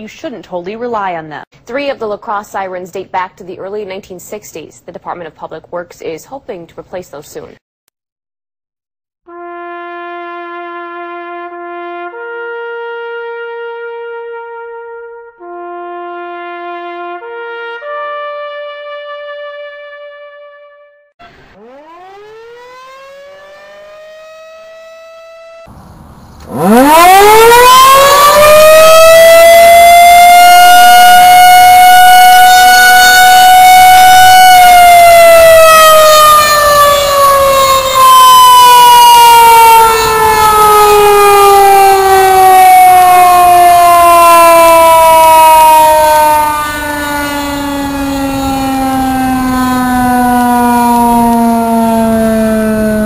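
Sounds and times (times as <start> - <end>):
warning siren wailing: 9.3 - 25.7, 26.5 - 53.0.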